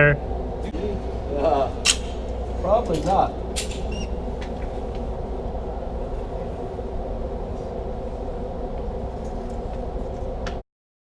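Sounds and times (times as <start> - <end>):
steady low rumbling: 0.0 - 10.6.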